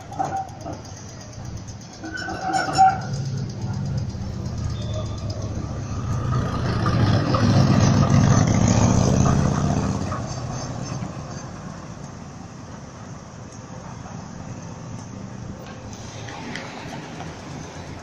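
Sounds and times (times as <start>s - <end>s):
street traffic noise: 0.0s - 18.0s
tram passing with low rumble: 0.0s - 18.0s.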